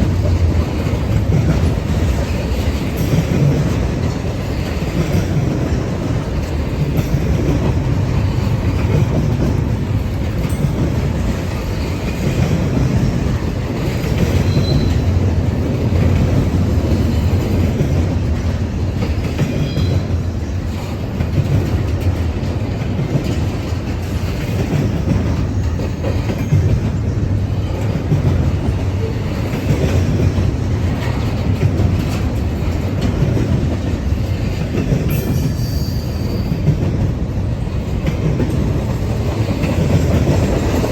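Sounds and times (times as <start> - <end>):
clickety-clack over rail joints: 0.0 - 40.9
freight train wheels rumbling: 0.0 - 40.9.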